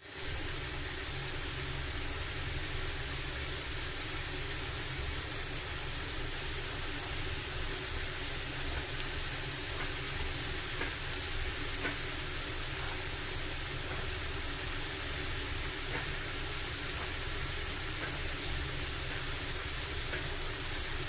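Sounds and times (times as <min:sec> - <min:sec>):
food sizzling in oil: 0:00.0 - 0:21.0
low steady rumble: 0:00.0 - 0:21.0.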